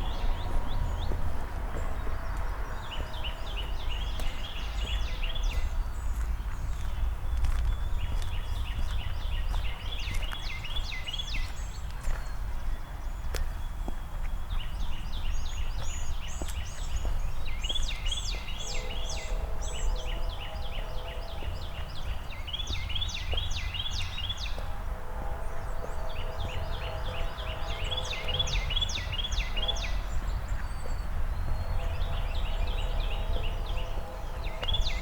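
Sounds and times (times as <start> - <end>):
low outdoor background rumble: 0.0 - 10.1, 14.4 - 35.0
songbird singing: 0.0 - 35.0.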